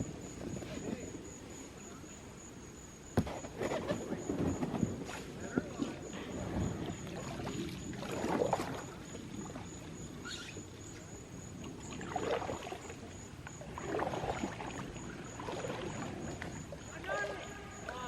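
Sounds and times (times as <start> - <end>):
paddle strokes swishing in water: 0.0 - 1.4, 3.2 - 18.0.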